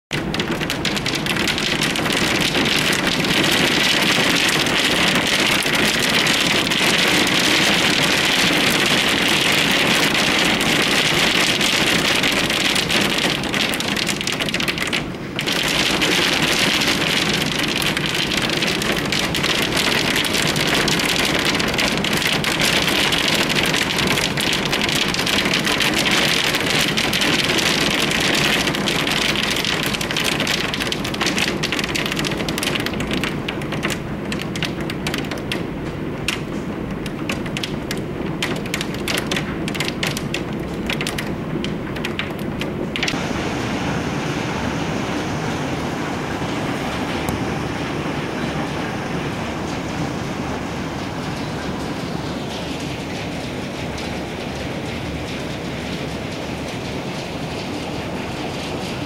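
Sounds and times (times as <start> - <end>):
heavy rain and hail: 0.1 - 59.0.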